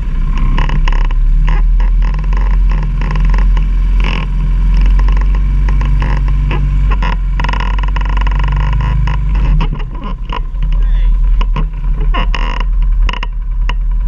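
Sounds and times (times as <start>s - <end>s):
atv engine running: 0.0s - 14.0s
knocks and rattles: 0.0s - 14.0s.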